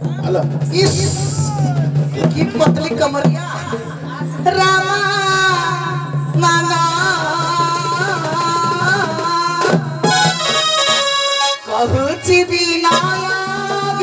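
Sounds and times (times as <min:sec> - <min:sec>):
drums: 0:00.0 - 0:14.0
man singing into a microphone: 0:00.8 - 0:10.6, 0:11.6 - 0:14.0.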